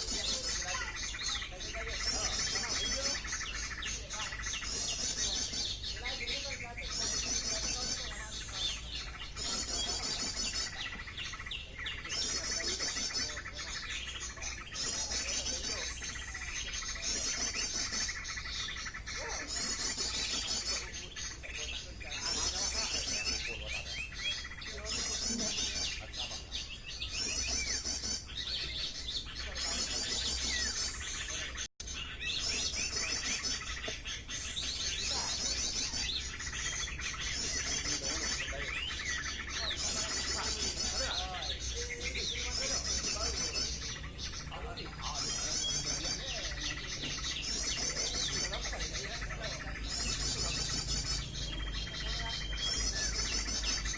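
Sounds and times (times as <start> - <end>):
bird high trilled phrases: 0.0 - 53.9
bird quick chirps: 0.0 - 53.9.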